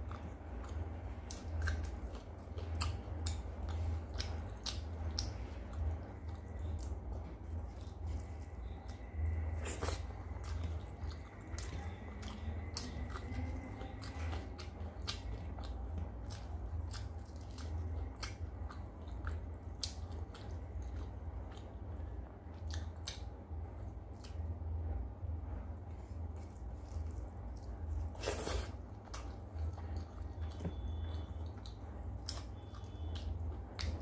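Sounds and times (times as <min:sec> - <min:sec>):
wet chewing and mouth smacks: 0:00.0 - 0:23.3, 0:25.9 - 0:34.0
low hum: 0:00.0 - 0:34.0.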